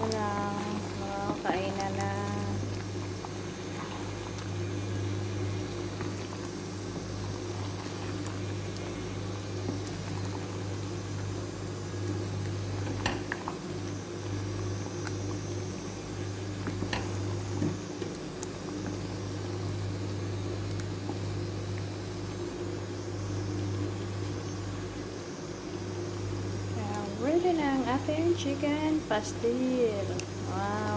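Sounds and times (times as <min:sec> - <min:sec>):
low hum: 0:00.0 - 0:30.9
stew bubbling in a pot: 0:00.0 - 0:30.9.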